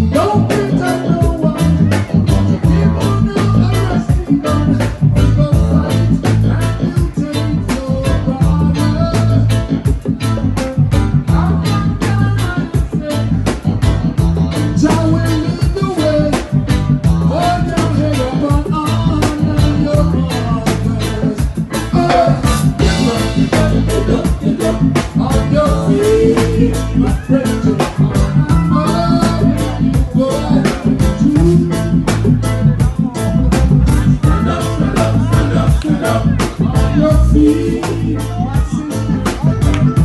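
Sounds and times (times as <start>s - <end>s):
band playing ska-reggae song: 0.0s - 40.0s.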